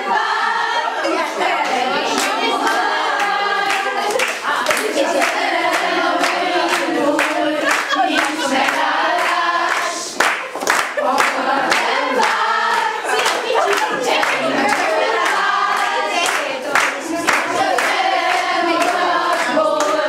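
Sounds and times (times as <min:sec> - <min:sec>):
women singing together: 0:00.0 - 0:20.0
hands clapping: 0:01.6 - 0:20.0.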